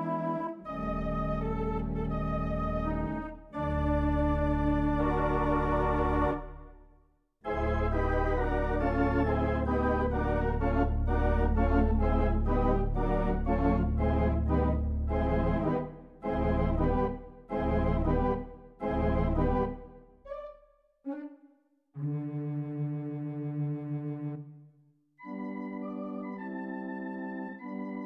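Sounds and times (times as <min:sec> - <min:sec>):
organ music: 0:00.0 - 0:06.8, 0:07.5 - 0:20.5, 0:25.2 - 0:28.0.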